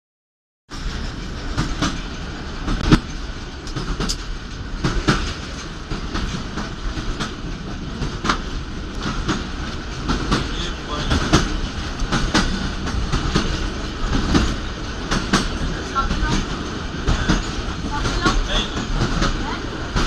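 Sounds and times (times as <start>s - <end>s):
train rumble: 0.7s - 20.0s
wheels clacking over rail joints: 0.7s - 20.0s.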